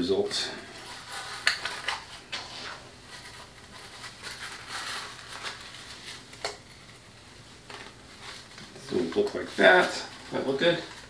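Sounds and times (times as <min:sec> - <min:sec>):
netting rustling: 0:00.8 - 0:11.0.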